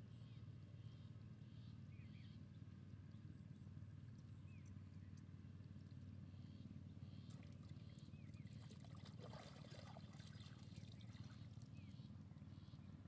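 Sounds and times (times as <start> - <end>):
faint low outdoor rumble: 0.0 - 13.0.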